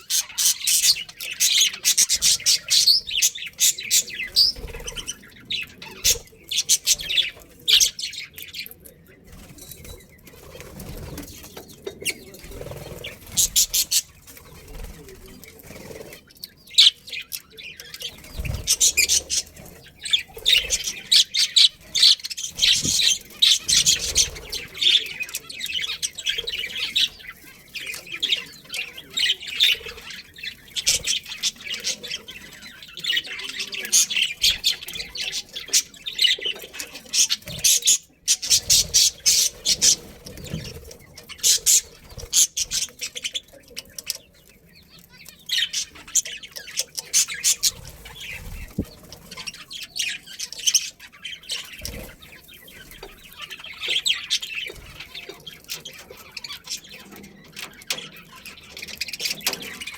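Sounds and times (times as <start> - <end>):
budgerigars chirping and chattering: 0.0 - 59.9.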